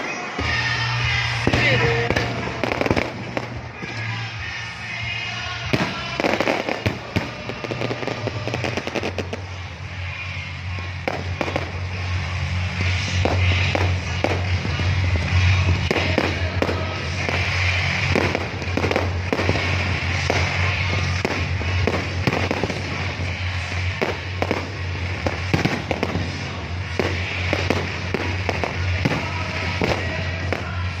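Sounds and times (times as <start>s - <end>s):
background music: 0.0s - 31.0s
fireworks bangs and crackles: 0.0s - 31.0s.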